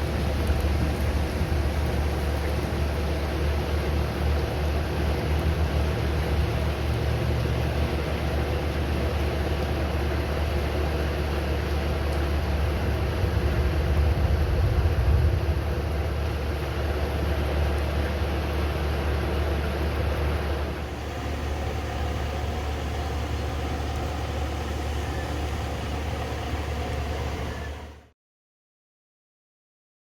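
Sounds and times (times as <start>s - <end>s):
vehicle running with deep hum: 0.0s - 28.1s.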